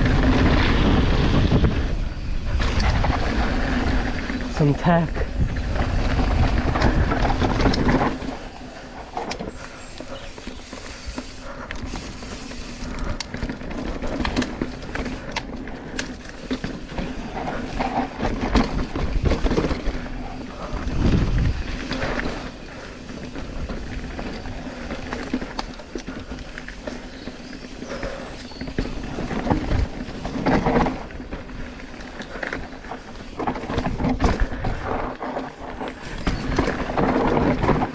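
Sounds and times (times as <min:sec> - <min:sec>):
bike rattling over bumps: 0:00.0 - 0:37.9
bike tyres on dirt: 0:00.0 - 0:37.9.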